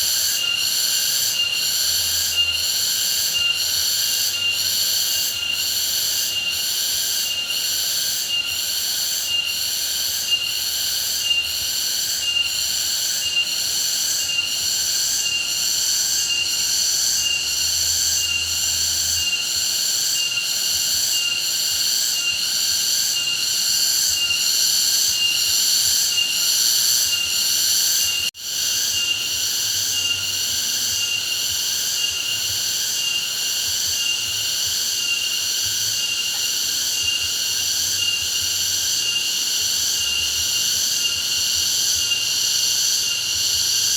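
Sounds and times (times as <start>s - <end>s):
insects shrilling in pulses: 0.0s - 43.9s.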